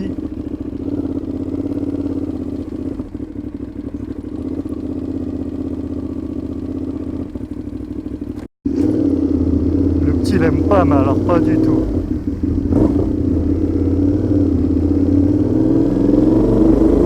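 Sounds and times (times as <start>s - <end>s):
motorcycle engine with loud exhaust: 0.0s - 17.0s.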